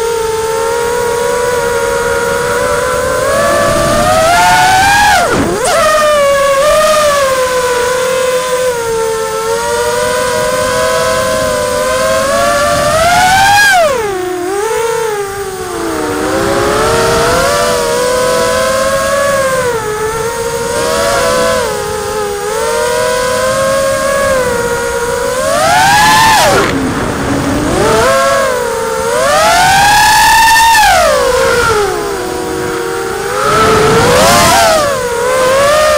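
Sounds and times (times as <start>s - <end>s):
drone motors whining: 0.0s - 35.9s.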